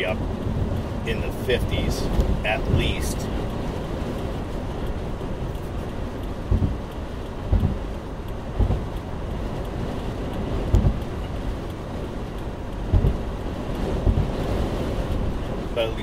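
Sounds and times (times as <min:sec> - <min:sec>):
dull low thumps: 0:00.0 - 0:15.7
car road and wind noise: 0:00.0 - 0:16.0.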